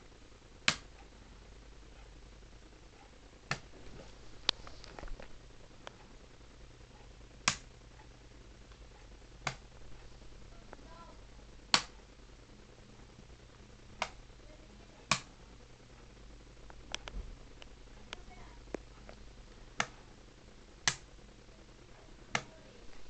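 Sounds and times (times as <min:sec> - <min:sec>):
faint mains hum: 0:00.0 - 0:23.0
sharp electrical clicks: 0:00.0 - 0:23.0.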